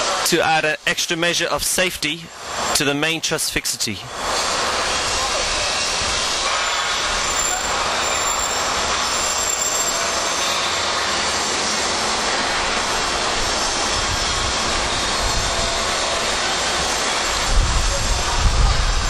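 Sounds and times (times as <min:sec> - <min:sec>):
steady hissing machinery noise: 0:00.0 - 0:19.0.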